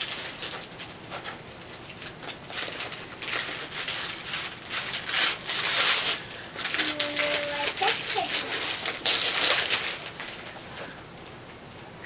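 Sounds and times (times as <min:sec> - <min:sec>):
wrapping paper rustling and tearing: 0:00.0 - 0:11.4.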